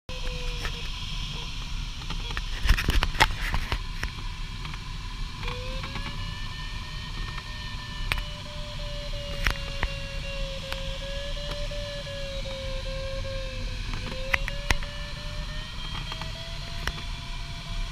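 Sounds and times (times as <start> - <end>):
airflow hissing around cockpit: 0.1 - 17.9.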